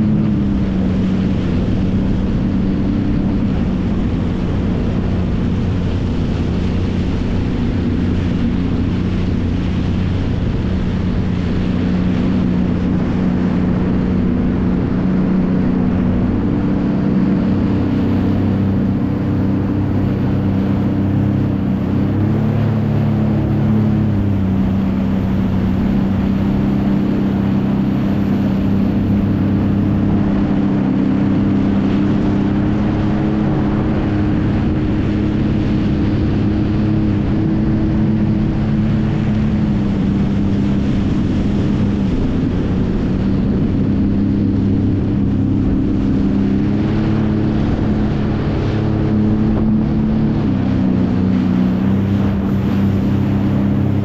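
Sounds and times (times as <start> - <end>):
jet ski engine running: 0.0 - 54.0
water rushing: 0.0 - 54.0
wind: 0.0 - 54.0.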